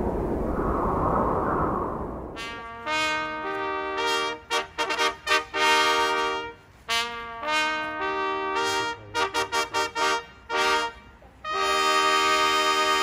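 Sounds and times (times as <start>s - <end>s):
brass hunting horns playing: 2.4s - 13.0s.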